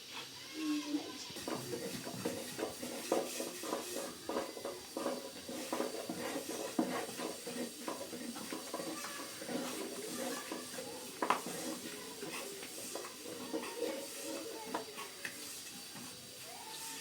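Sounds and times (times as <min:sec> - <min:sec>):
cooking utensils clattering: 0:01.3 - 0:16.4.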